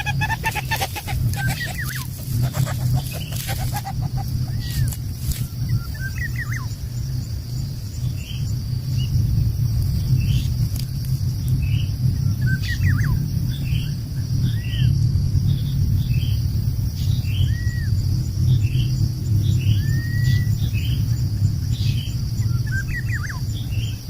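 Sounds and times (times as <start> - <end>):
high insect drone: 0.0 - 24.0
loud low rumble: 0.0 - 24.0
small birds chirping: 0.0 - 24.0
warbling bird song: 0.0 - 24.0.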